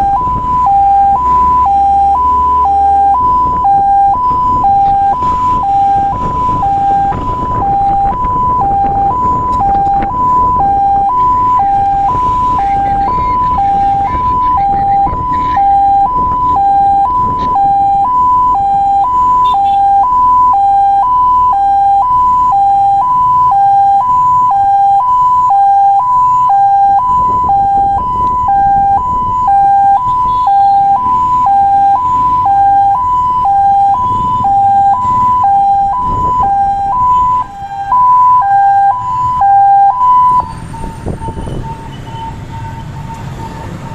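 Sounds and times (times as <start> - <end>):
engine and road noise: 0.0 - 43.9
two-tone fire truck siren: 0.0 - 43.9.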